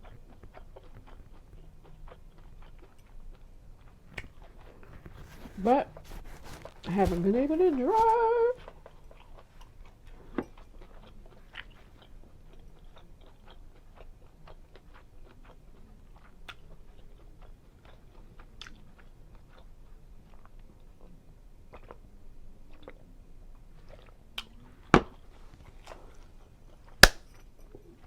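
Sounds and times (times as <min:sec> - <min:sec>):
chewing with lips smacking: 0:00.0 - 0:07.2, 0:08.6 - 0:23.1, 0:23.8 - 0:24.7.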